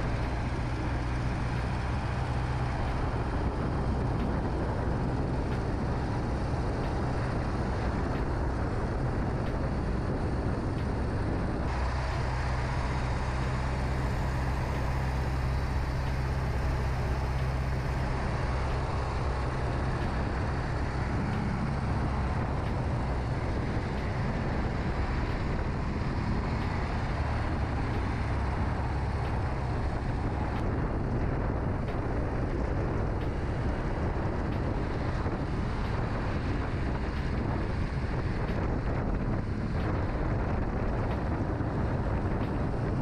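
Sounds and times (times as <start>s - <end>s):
motorcycle engine humming: 0.0s - 43.0s
road noise: 0.0s - 43.0s.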